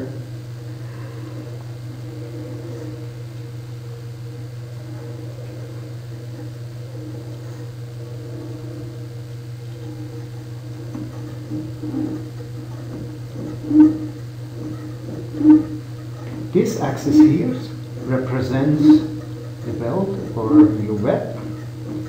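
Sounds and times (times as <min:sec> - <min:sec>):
servo motors humming: 0:00.0 - 0:22.0.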